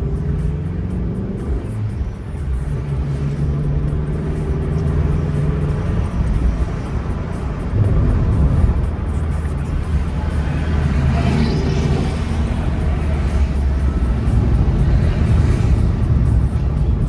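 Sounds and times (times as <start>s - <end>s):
engine and tyre drone: 0.0s - 17.0s.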